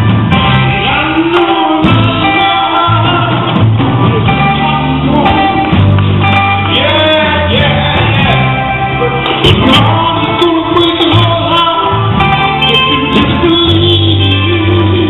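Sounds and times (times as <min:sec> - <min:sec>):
band with bass and guitar: 0:00.0 - 0:15.0
singers holding long notes: 0:00.0 - 0:15.0.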